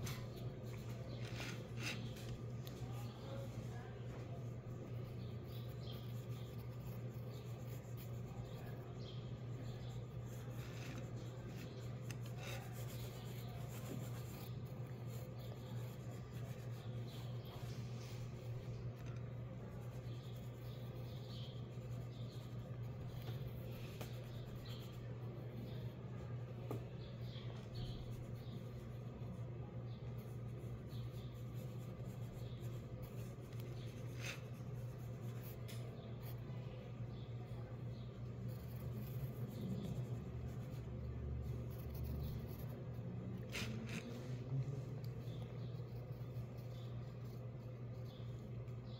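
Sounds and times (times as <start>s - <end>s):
pencil scratching on paper: 0.0s - 48.9s.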